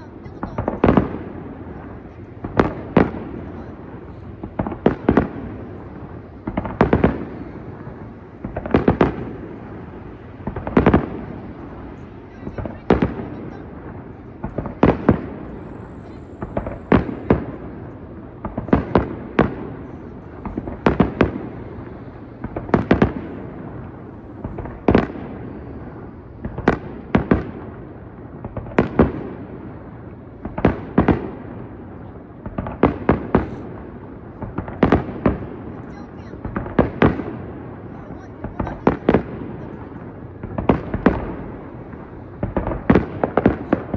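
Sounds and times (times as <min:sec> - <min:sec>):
fireworks bursting with sharp bangs: 0:00.0 - 0:43.9
rumbling echo: 0:00.0 - 0:43.9.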